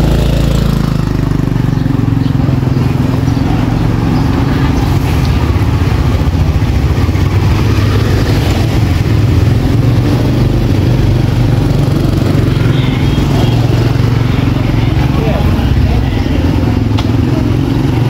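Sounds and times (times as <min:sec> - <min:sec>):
small engine droning: 0:00.0 - 0:18.0.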